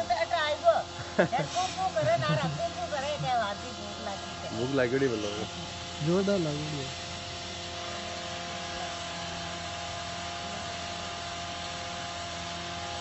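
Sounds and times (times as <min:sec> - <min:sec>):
constant tones: 0:00.0 - 0:11.4
background hum and hiss: 0:00.0 - 0:13.0.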